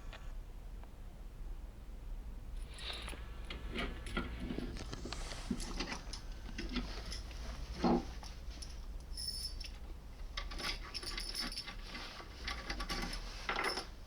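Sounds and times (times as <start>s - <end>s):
lock tool clicking and scraping: 2.6s - 14.0s.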